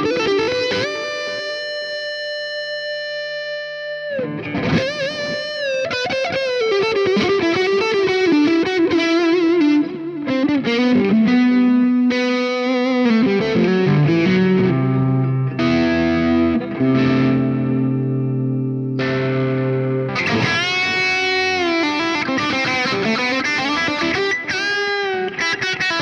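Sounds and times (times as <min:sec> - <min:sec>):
guitar chords ringing: 0:00.0 - 0:26.0
overdriven electric guitar lead: 0:00.0 - 0:26.0.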